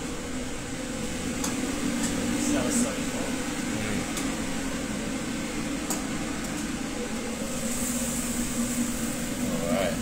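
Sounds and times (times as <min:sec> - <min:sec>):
ventilation hum: 0:00.0 - 0:10.0.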